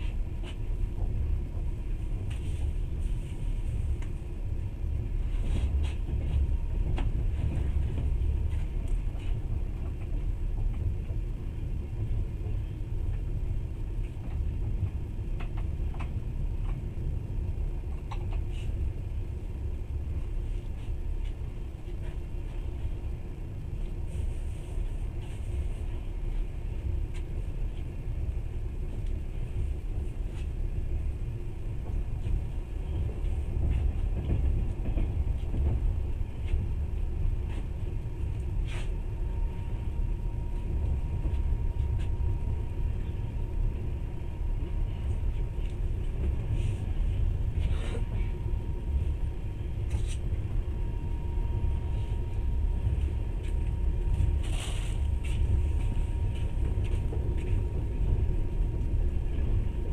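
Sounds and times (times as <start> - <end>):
faint steady hum: 0.0 - 59.9
train wheels rumbling on rails: 0.0 - 59.9.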